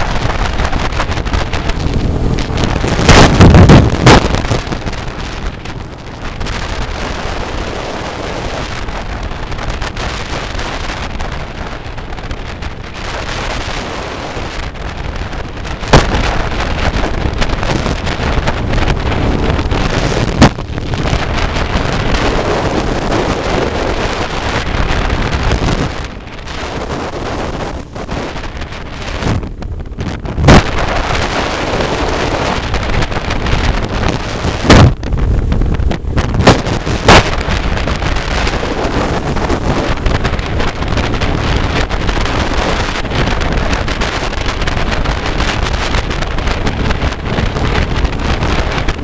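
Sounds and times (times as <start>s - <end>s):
motorcycle engine running: 0.0s - 49.0s
road noise: 0.0s - 49.0s
wind buffeting microphone: 0.0s - 49.0s.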